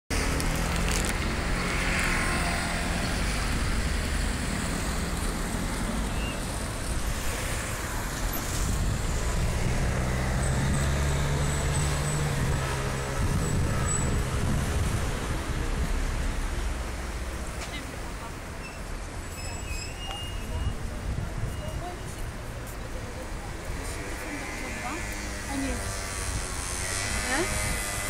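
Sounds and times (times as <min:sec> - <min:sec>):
road traffic noise: 0:00.1 - 0:28.0.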